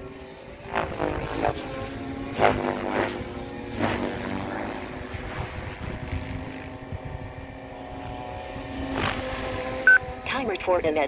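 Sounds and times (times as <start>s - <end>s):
model helicopter rotor whine: 0.0s - 11.0s
whoosh of rotor blades: 0.0s - 11.0s.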